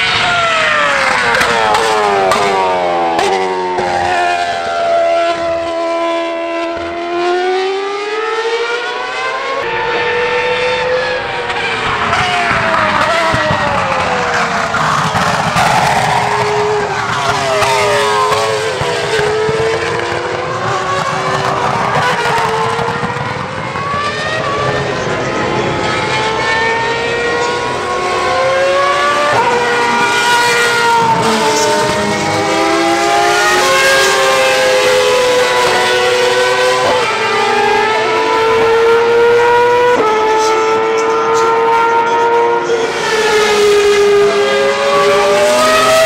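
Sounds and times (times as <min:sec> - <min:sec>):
racing car engines revving: 0:00.0 - 0:46.0.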